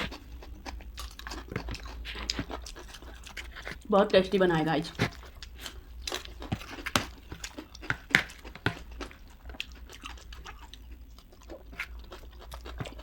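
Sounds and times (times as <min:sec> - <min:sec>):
chewing crunchy snack: 0:00.0 - 0:03.9, 0:04.9 - 0:13.0.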